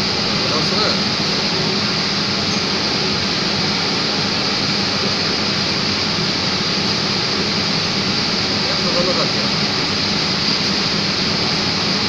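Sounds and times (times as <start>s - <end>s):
chiller plant hiss and hum: 0.0s - 12.0s.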